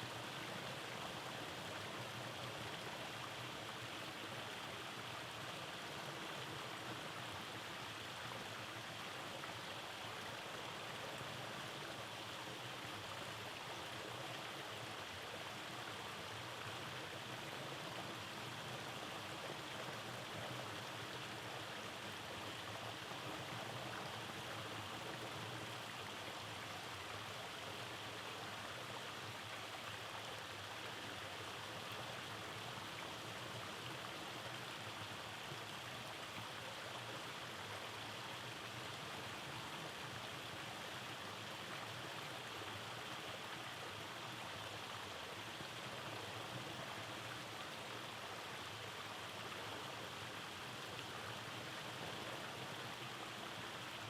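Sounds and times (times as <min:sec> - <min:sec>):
stream flowing over cascades: 0:00.0 - 0:54.0.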